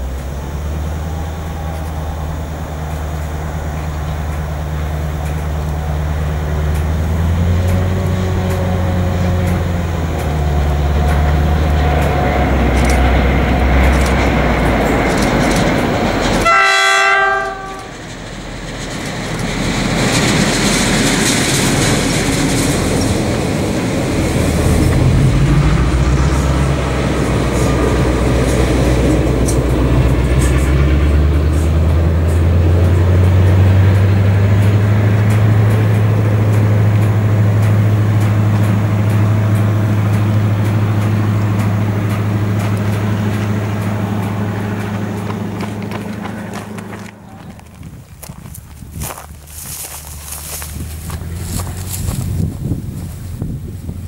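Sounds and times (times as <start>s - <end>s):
locomotive engine drone: 0.0s - 54.0s
train wheels clicking on rails: 0.0s - 54.0s.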